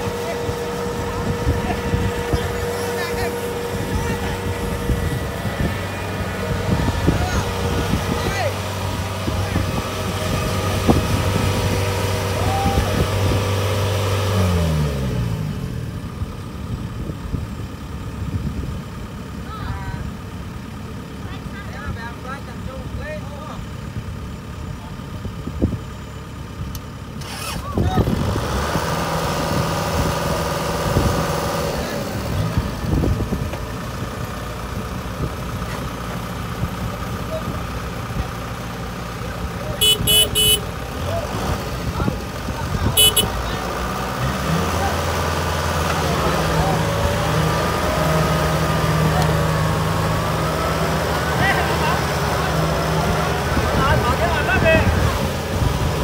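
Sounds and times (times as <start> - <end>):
diesel engine winding down: 0.0 - 56.0.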